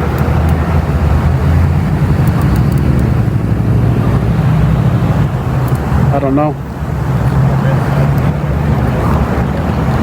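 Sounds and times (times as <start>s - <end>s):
road traffic noise: 0.0s - 10.0s
vehicle engine rumbling: 0.0s - 10.0s.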